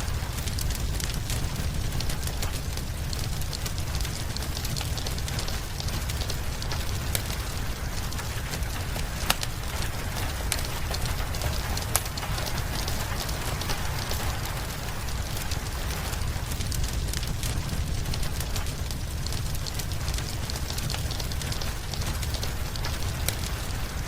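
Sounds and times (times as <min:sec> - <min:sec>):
low rumble: 0:00.0 - 0:24.0
rain hissing: 0:00.0 - 0:24.0
wood fire crackling: 0:00.0 - 0:24.0.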